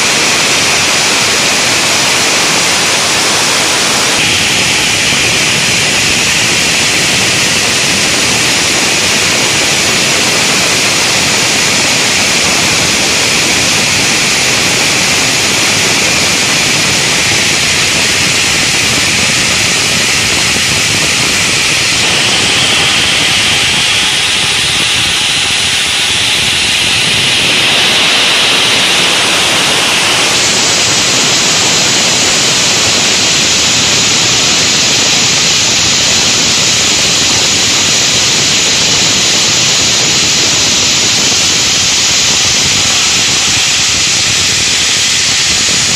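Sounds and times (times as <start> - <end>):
stone cutting saw: 0.0 - 45.9.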